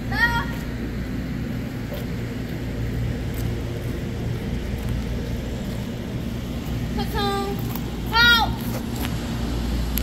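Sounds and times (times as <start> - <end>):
constant low tones: 0.0 - 10.0
machinery humming and rumbling: 0.0 - 10.0.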